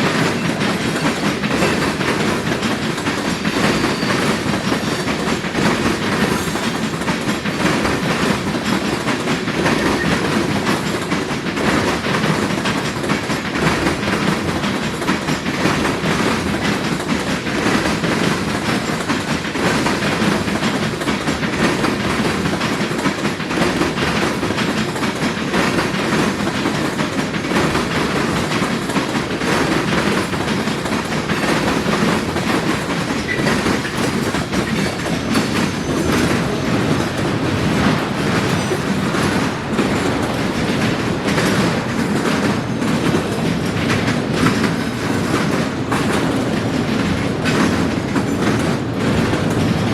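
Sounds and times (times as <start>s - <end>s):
train wheels clacking over rail gaps: 0.0s - 49.9s.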